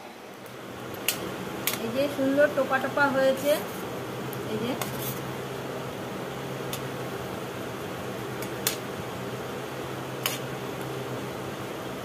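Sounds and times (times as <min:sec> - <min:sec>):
deep-frying sizzle: 0:00.0 - 0:12.0.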